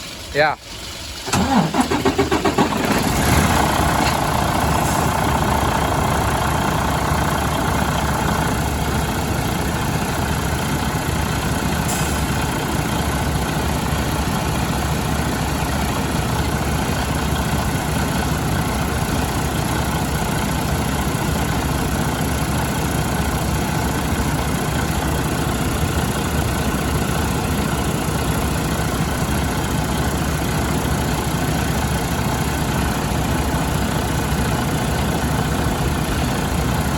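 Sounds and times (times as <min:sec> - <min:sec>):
diesel engine idling: 0:00.8 - 0:36.9.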